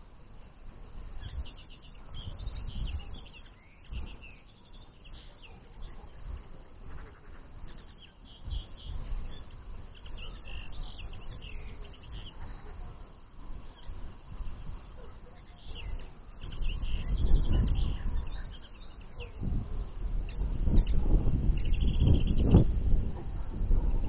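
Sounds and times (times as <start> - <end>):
wind rumble on microphone: 0.0 - 24.0
linnets twittering: 0.2 - 24.0.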